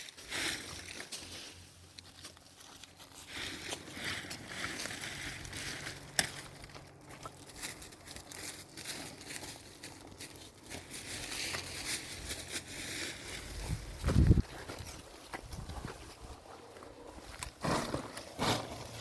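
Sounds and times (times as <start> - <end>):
crinkling rustling handling noise: 0.0 - 19.0.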